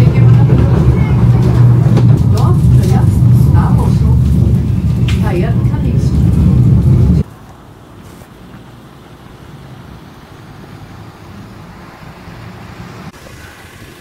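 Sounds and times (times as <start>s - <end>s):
street traffic: 0.0s - 14.0s
vehicle engine rumbling: 0.0s - 14.0s.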